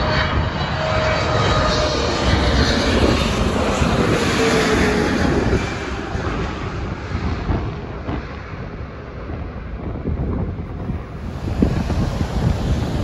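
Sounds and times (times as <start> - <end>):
jet airliner passing overhead: 0.0 - 13.0
wind rumbling on microphone: 0.0 - 13.0.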